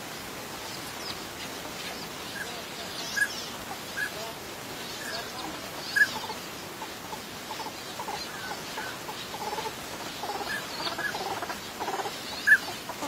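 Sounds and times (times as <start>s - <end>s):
ducks calling: 0.5s - 13.0s.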